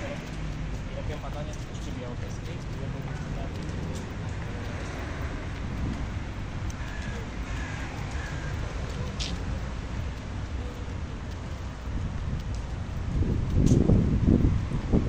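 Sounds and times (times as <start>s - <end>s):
distant traffic rumble: 0.0s - 15.0s
wind on microphone: 2.3s - 15.0s.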